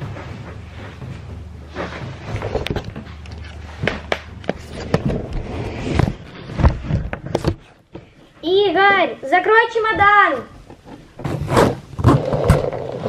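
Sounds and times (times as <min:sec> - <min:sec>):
clothes rustling against microphone: 0:00.0 - 0:08.5, 0:10.0 - 0:13.0.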